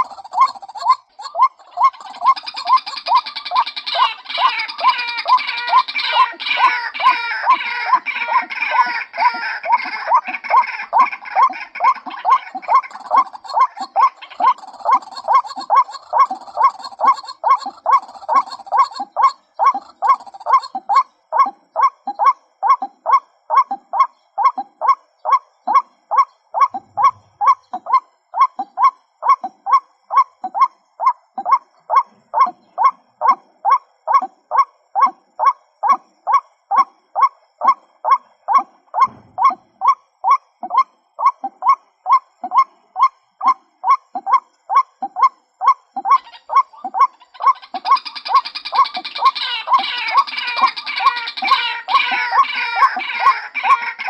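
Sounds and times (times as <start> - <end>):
waterhen calling: 0.0 - 54.0.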